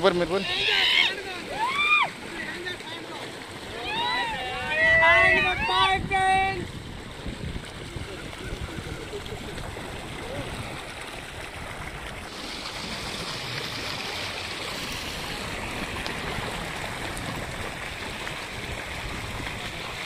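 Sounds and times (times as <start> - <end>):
water rushing over a weir: 0.0 - 20.0.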